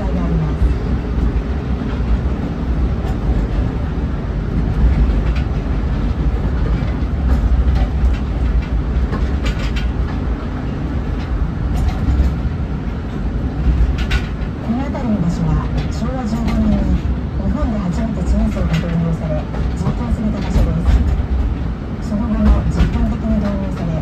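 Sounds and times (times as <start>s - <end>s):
train rumbling: 0.0s - 24.0s
wheels clacking over rail joints: 0.0s - 24.0s.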